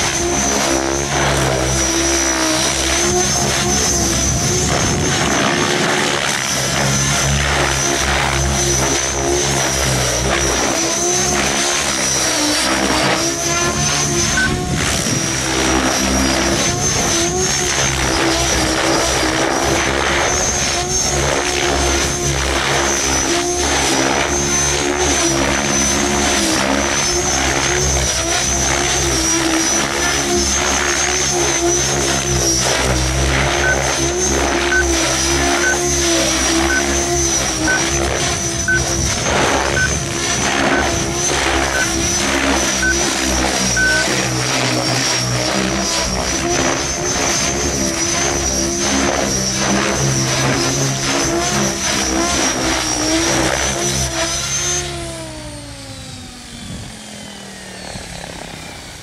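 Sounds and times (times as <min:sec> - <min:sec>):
electric motor whine: 0:00.0 - 0:59.0
helicopter rotor blades: 0:00.0 - 0:59.0.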